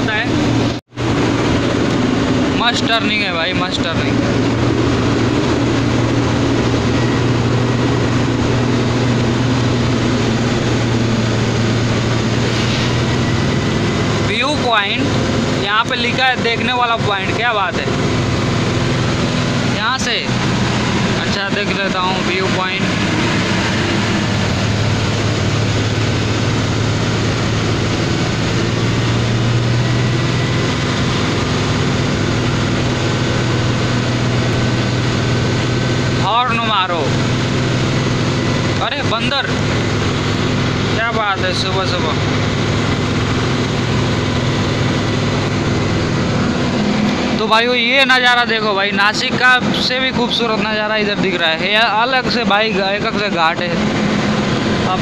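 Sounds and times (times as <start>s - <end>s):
road noise: 0.0s - 55.0s
truck diesel engine drone: 0.0s - 55.0s.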